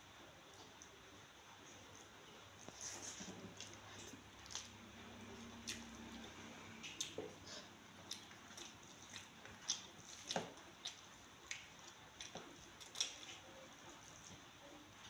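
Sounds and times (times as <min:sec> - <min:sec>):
chewing: 0:01.6 - 0:15.0.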